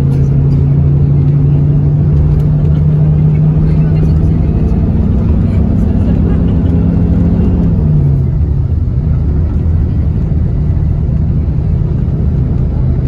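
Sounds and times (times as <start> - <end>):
bus engine drone: 0.0 - 13.0
road rumble: 0.0 - 13.0.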